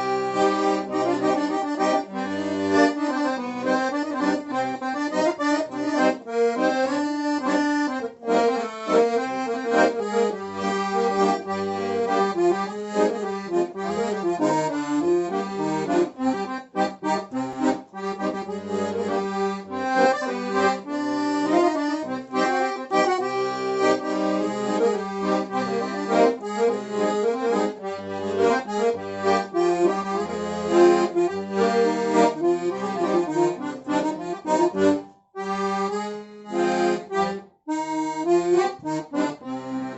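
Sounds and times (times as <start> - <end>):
accordion playing: 0.0 - 39.9.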